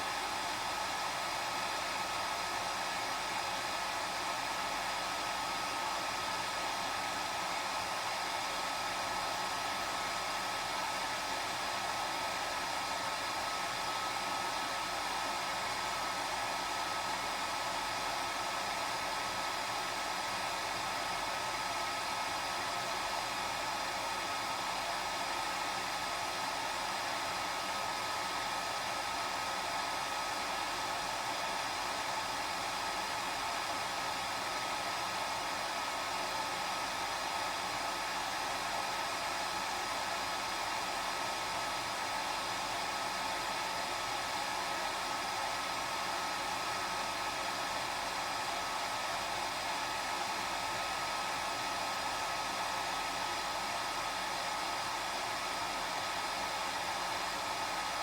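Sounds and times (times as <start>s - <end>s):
hair dryer blowing air: 0.0s - 58.0s.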